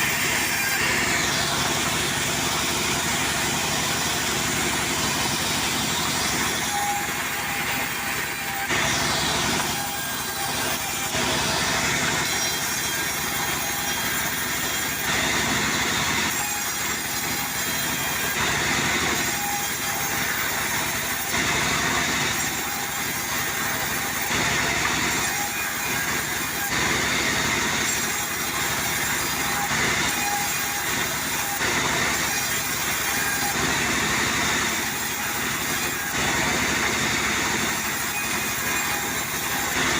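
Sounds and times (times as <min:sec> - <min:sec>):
sawmill cutting through wood: 0:00.0 - 0:39.9.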